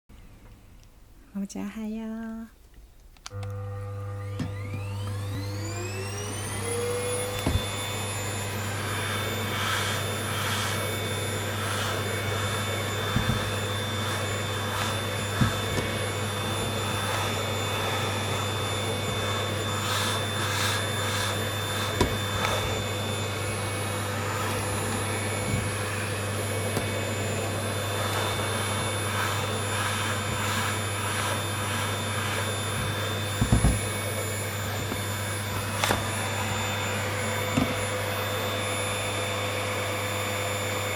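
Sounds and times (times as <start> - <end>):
vacuum cleaner whining: 3.3 - 40.9.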